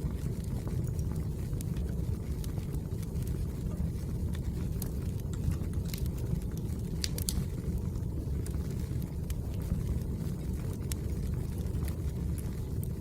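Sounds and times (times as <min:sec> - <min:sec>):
firewood crackling and popping: 0:00.0 - 0:13.0.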